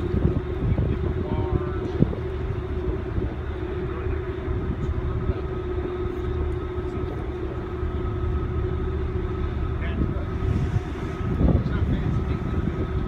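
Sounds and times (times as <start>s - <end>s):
ferry engines rumbling: 0.0s - 13.0s
wind buffeting microphone: 0.0s - 13.0s.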